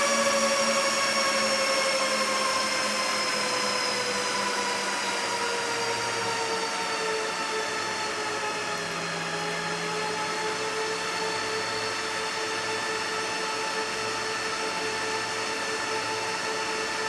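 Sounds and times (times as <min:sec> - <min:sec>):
motor whine slowing down: 0:00.0 - 0:17.0.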